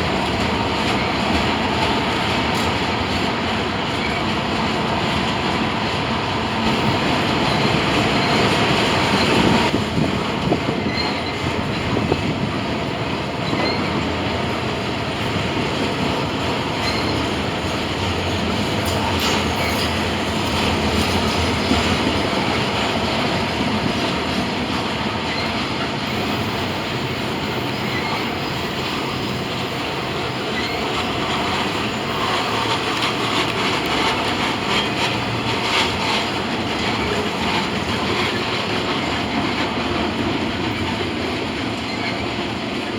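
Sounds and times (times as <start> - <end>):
steel wheels rumbling on rail: 0.0 - 42.9.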